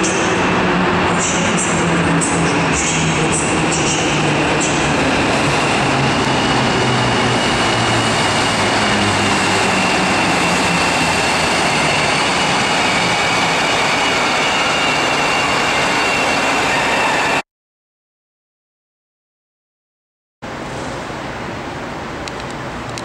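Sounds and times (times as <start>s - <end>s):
train rumble and hiss: 0.0s - 17.4s, 20.5s - 23.0s.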